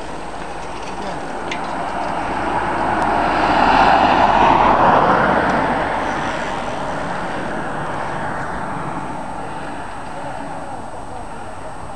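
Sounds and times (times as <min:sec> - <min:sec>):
car passing by: 0:00.3 - 0:11.9.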